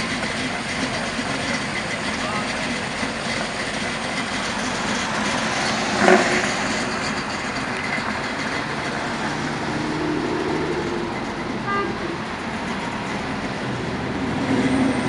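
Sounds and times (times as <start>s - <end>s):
cars driving by: 0.0s - 15.0s.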